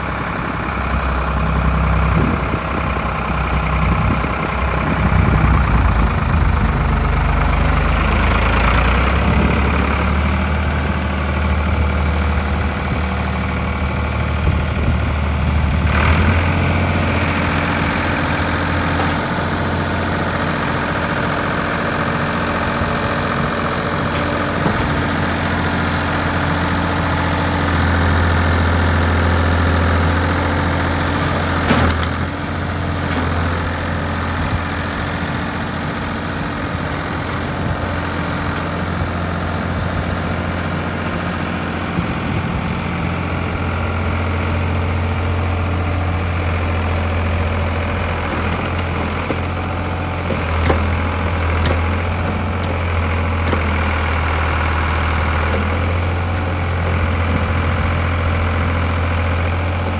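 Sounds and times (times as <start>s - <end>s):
backhoe engine running: 0.0s - 59.9s.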